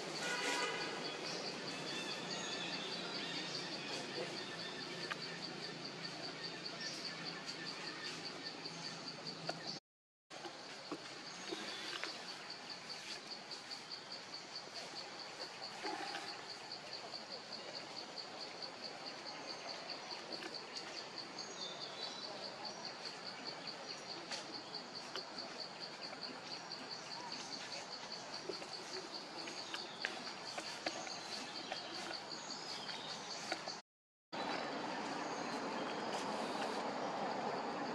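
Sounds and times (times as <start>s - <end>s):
forest ambience: 0.0s - 33.8s, 34.4s - 37.9s.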